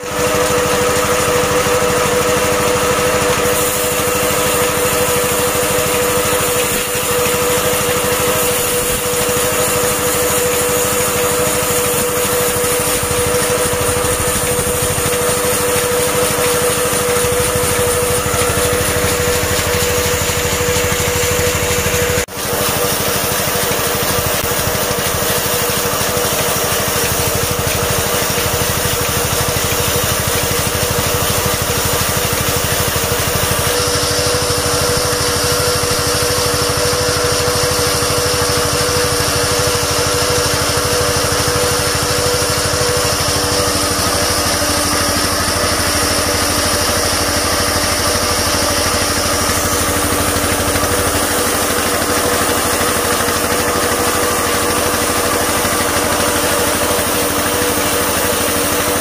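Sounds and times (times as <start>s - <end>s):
diesel engine running: 0.0s - 59.0s
saw blade cutting log: 0.0s - 59.0s
high steady whine: 3.4s - 37.1s, 39.0s - 59.0s.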